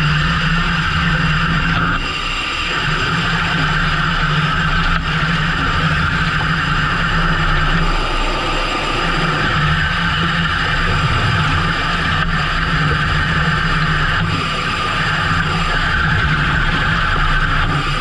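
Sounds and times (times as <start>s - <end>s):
boat engine running: 0.0s - 18.0s
rushing noise: 0.0s - 18.0s.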